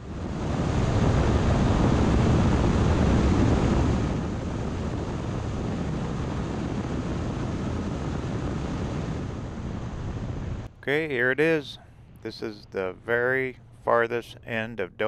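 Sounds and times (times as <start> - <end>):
wind and road noise: 0.0 - 14.5.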